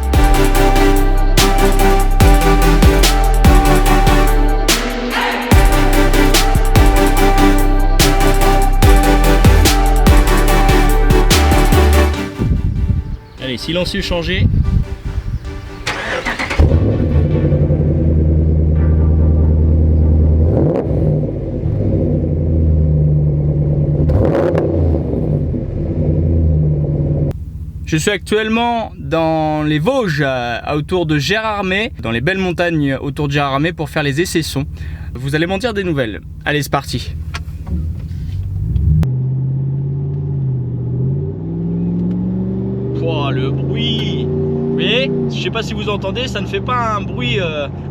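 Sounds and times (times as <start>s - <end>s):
truck engine idling and revving: 0.0s - 13.1s, 14.7s - 47.9s.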